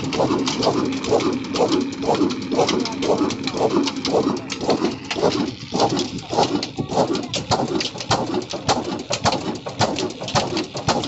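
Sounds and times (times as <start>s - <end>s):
diesel engine running slowly: 0.0s - 11.0s.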